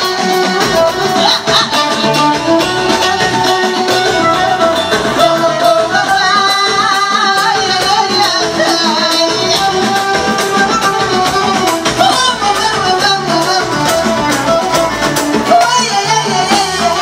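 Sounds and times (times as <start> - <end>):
live band with singing: 0.0 - 17.0.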